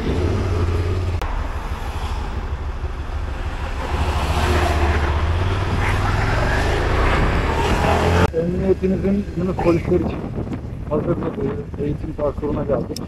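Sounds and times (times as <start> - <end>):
motorcycle engine running: 0.0 - 10.9
wind rushing over microphone: 0.0 - 13.0.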